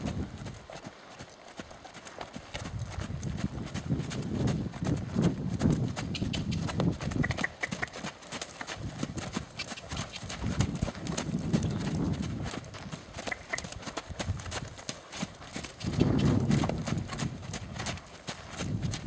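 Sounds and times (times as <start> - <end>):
horse hoofbeats on sand: 0.0 - 19.0.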